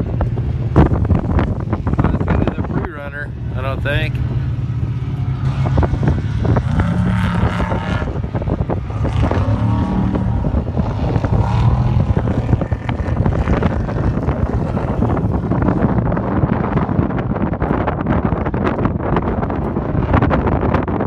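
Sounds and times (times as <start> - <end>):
truck engine revving: 0.0 - 20.8.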